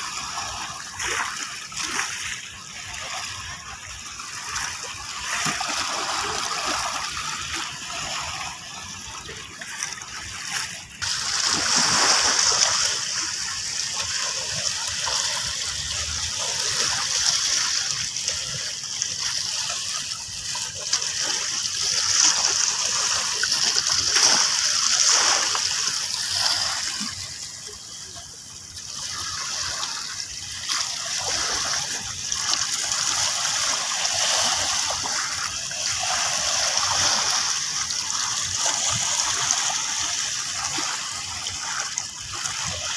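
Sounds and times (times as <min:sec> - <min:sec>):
waves splashing over rocks: 0:00.0 - 0:42.9.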